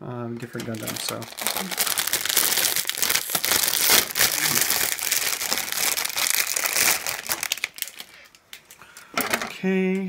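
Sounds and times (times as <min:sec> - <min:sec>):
plastic bag crinkling: 0:00.3 - 0:09.4.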